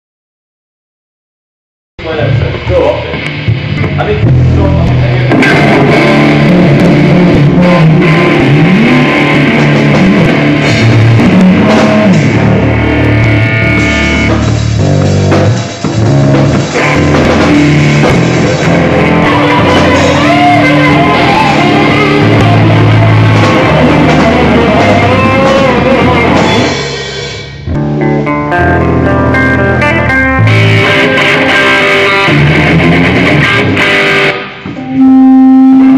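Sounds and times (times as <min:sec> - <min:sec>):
loud rock music: 0:02.0 - 0:35.9.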